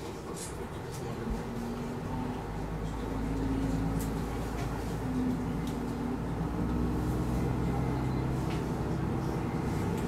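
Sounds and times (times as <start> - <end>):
railcar engine drone: 0.0 - 10.0.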